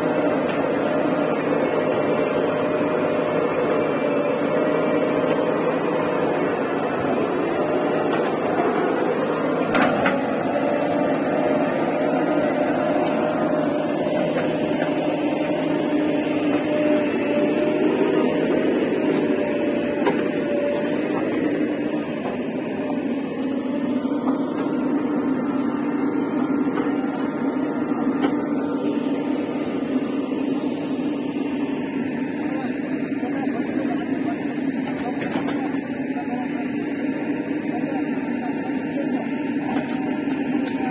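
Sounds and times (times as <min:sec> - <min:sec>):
diesel engine running under load: 0:00.0 - 0:40.9
hydraulics working digging arm: 0:00.0 - 0:40.9.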